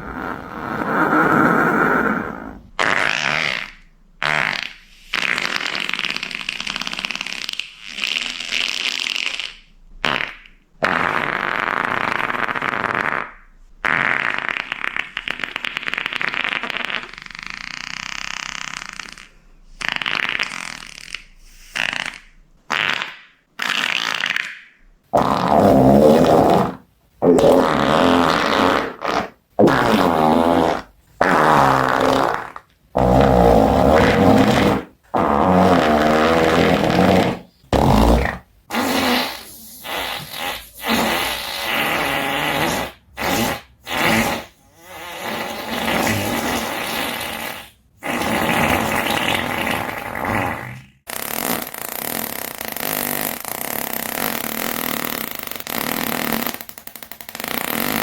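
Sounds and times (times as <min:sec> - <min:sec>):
fart sounds: 0:00.0 - 0:58.0.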